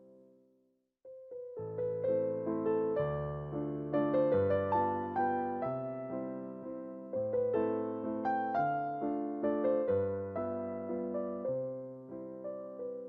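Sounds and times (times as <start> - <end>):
soft piano piece: 0.0 - 0.4, 1.1 - 13.0.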